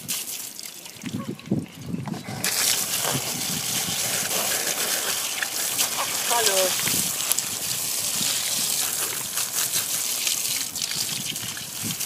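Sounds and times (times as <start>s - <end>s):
water from hose splashing: 0.0s - 12.0s.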